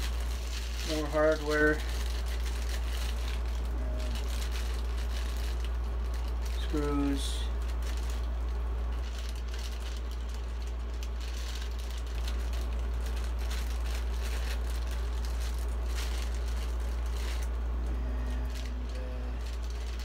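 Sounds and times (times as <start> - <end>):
plastic bag of screws crinkling: 0.0 - 20.0
steady low hum: 0.0 - 20.0.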